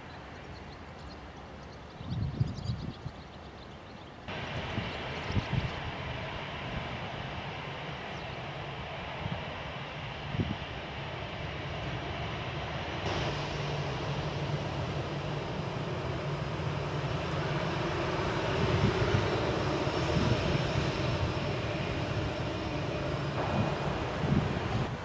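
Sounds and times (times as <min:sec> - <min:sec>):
airliner engines roaring: 0:00.0 - 0:25.0.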